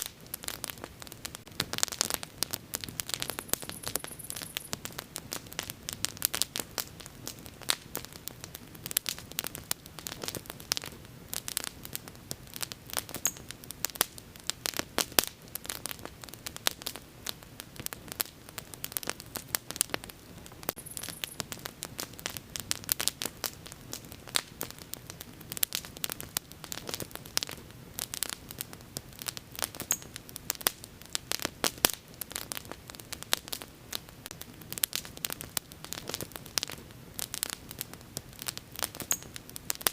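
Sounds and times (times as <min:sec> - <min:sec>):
soft rush of burning: 0:00.0 - 0:39.9
wood fire crackling and popping: 0:00.0 - 0:39.9.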